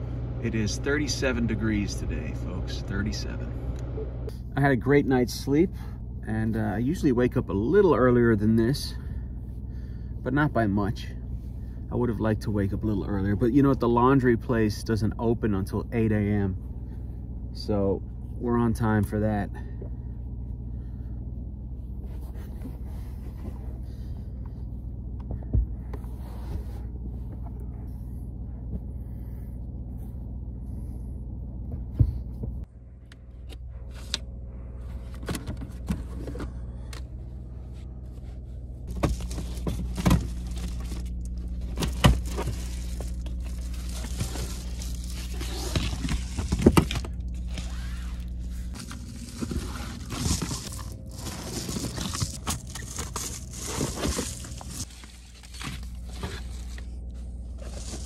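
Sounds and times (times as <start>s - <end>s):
car engine idling: 0.0s - 58.0s
heater fan hum: 0.0s - 58.0s.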